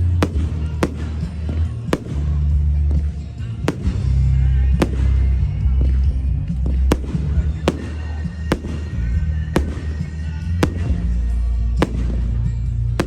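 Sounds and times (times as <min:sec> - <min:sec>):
firework shells bursting: 0:00.0 - 0:13.0
music with heavy bass: 0:00.0 - 0:13.0.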